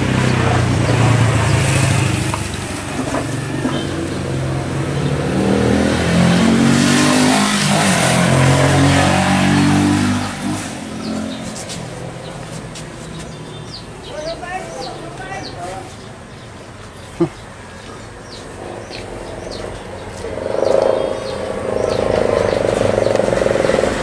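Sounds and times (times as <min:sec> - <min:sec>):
motor scooter passing by: 0:00.0 - 0:16.6, 0:17.3 - 0:24.0.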